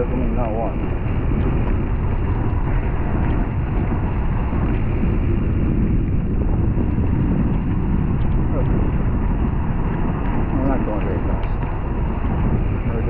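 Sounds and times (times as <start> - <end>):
bicycle road noise on wet road: 0.0 - 13.0
wind on microphone: 0.0 - 13.0.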